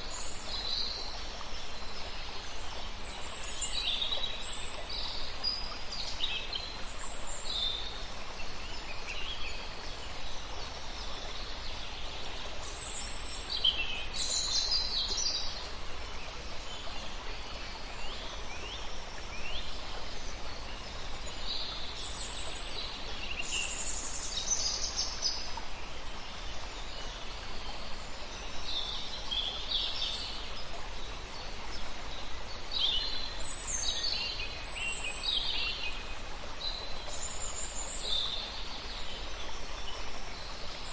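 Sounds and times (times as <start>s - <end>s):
outdoor ambience hiss: 0.0s - 40.9s.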